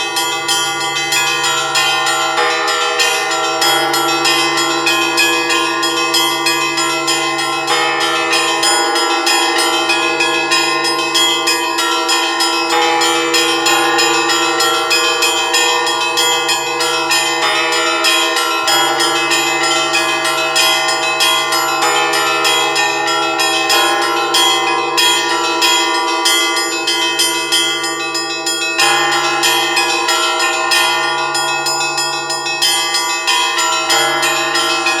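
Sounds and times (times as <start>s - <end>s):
large bells ringing: 0.0s - 35.0s.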